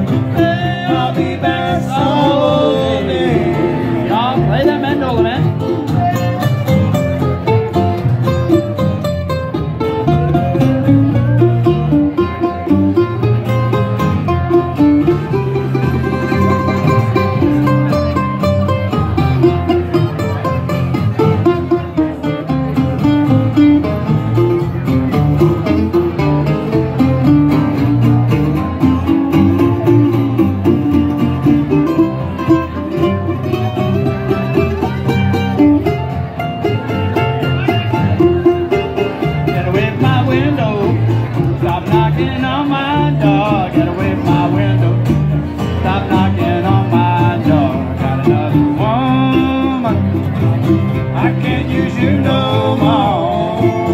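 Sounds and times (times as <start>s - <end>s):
guitar: 0.0s - 53.9s
picked mandolin: 0.0s - 53.9s
upright bass: 0.0s - 53.9s.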